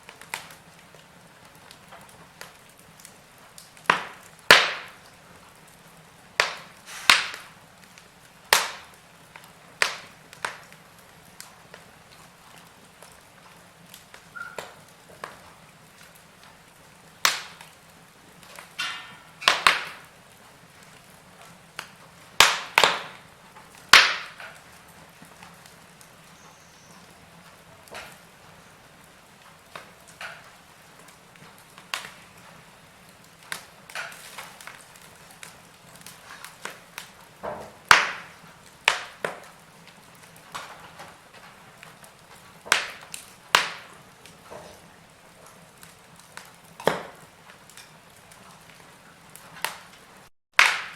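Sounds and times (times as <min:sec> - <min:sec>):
faint steady hiss: 0:00.0 - 0:50.3
fire crackling: 0:00.0 - 0:50.9
fire popping: 0:00.0 - 0:50.9.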